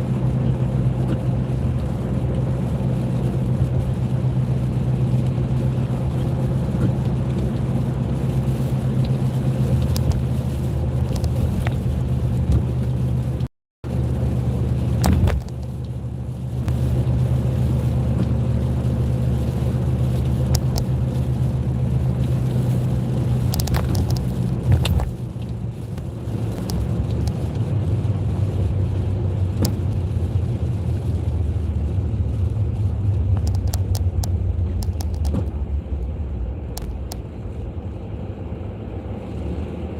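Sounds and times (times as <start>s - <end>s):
car cabin hum: 5.0s - 17.2s, 17.9s - 39.9s.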